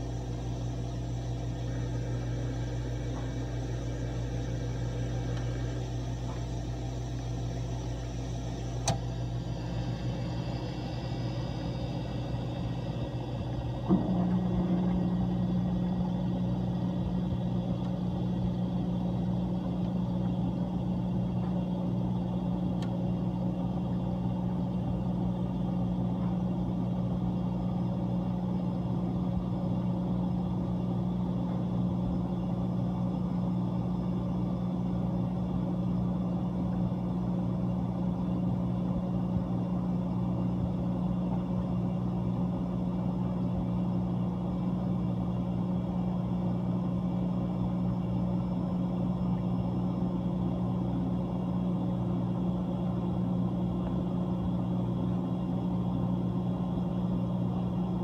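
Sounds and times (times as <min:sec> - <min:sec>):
compressor humming: 0:00.0 - 0:58.0.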